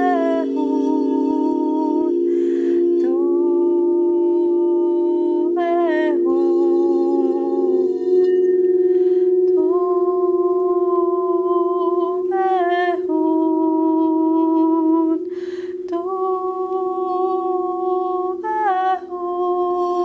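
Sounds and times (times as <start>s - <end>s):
crystal singing bowls ringing: 0.0s - 20.0s
woman singing wordless notes: 0.0s - 20.0s.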